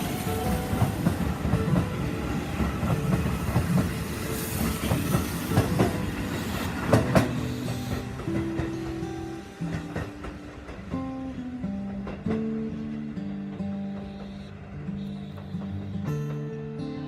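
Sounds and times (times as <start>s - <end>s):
electric train rumbling on track: 0.0s - 17.0s
music: 0.0s - 17.0s
wheels clacking over rail joints: 0.0s - 17.0s.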